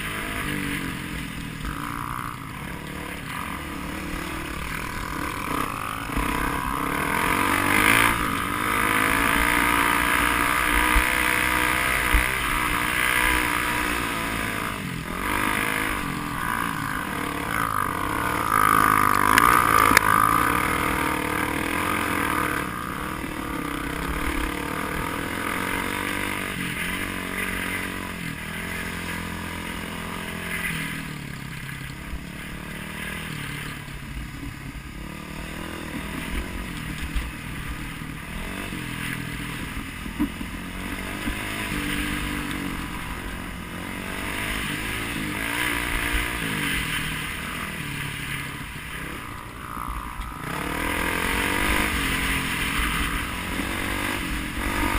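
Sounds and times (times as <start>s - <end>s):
off-road motorcycle engine: 0.0s - 54.9s.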